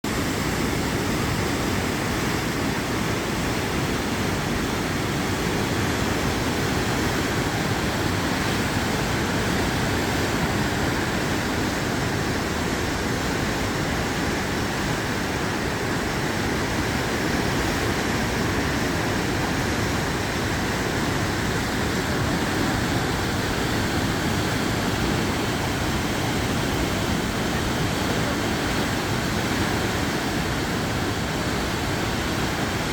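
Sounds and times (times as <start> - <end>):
water rushing through spillway: 0.0 - 32.9.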